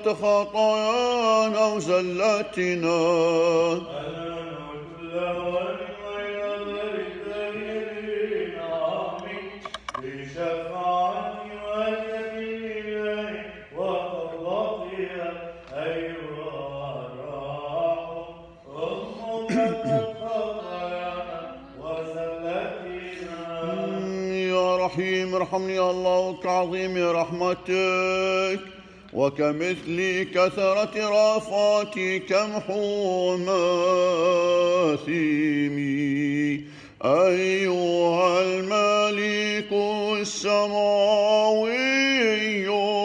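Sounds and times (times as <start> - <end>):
held vocal drone: 0.0 - 43.0
male voices chanting: 0.0 - 43.0.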